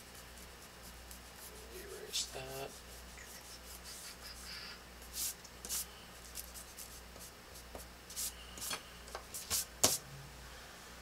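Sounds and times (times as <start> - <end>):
eraser rubbing on paper: 0.0 - 7.3, 8.1 - 10.0.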